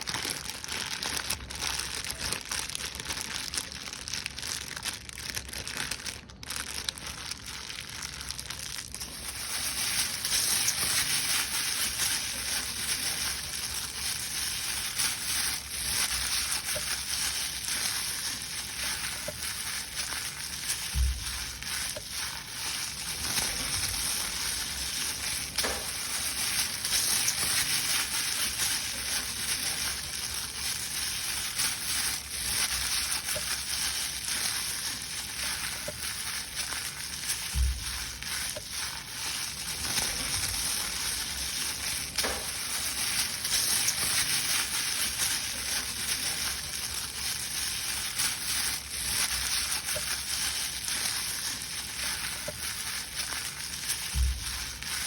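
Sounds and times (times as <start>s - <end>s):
paper crumpling: 0.0s - 55.0s.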